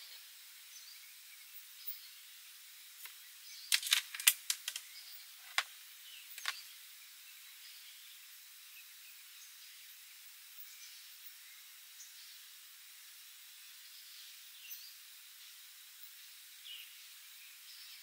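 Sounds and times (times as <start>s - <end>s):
faint outdoor background hiss: 0.0s - 18.0s.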